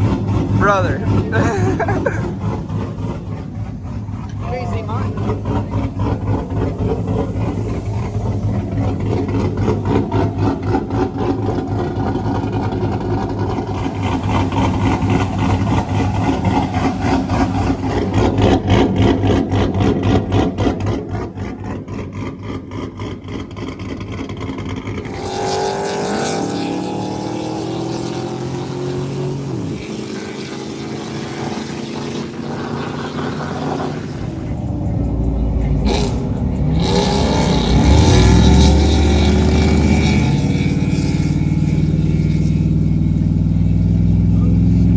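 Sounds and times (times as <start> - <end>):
truck engines idling: 0.0 - 25.1, 29.7 - 44.9
engine revs falling: 0.0 - 44.9.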